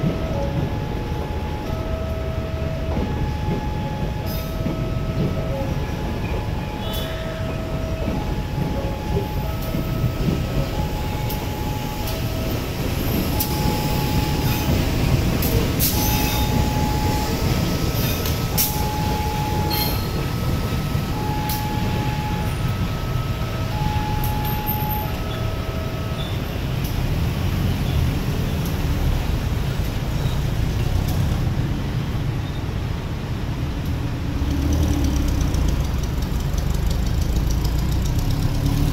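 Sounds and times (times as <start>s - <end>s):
train rumbling past: 0.0s - 38.9s.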